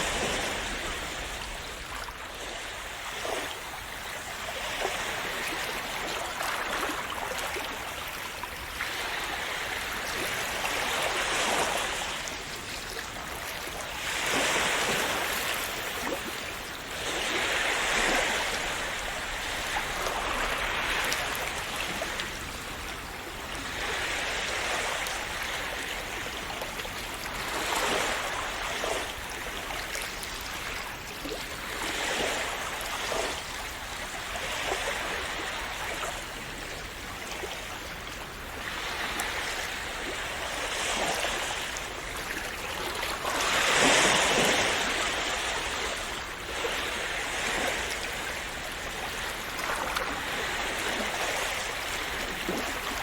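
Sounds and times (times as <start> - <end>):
small waves washing onto shore: 0.0 - 53.0.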